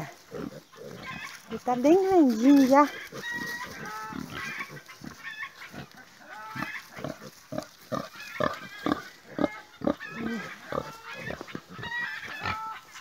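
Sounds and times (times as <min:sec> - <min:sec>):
high-pitched pig calls: 0:00.0 - 0:13.0
pigs grunting: 0:00.0 - 0:13.0.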